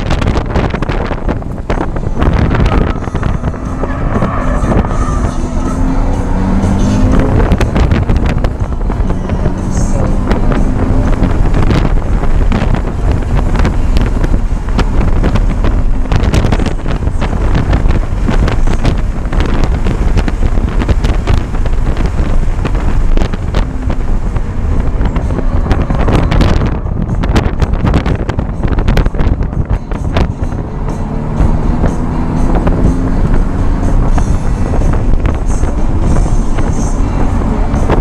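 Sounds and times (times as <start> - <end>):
car engine revving: 0.0 - 38.0
wind and road noise: 0.0 - 38.0.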